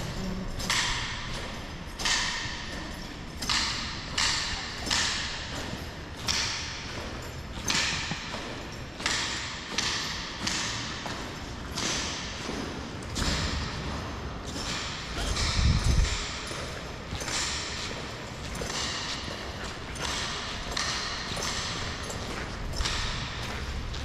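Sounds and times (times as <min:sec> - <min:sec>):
boots marching on marble floor: 0:00.0 - 0:24.0.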